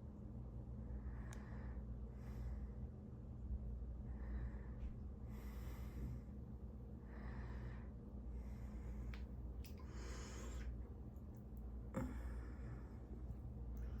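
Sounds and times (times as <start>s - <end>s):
low steady hum: 0.0s - 14.0s
soft breaths: 0.8s - 14.0s.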